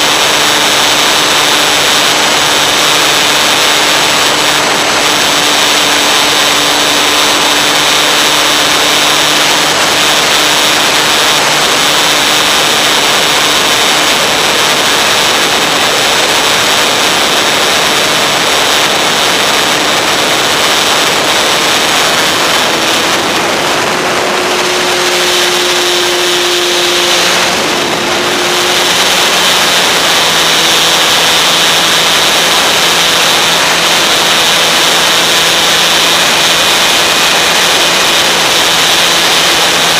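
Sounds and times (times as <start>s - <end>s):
model plane motor and propeller drone: 0.0s - 39.9s
wind rush: 0.0s - 39.9s.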